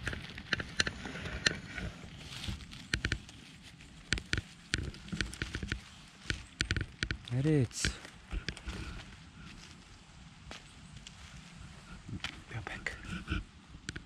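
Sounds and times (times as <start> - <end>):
pine needles and twigs crackling: 0.0 - 14.0.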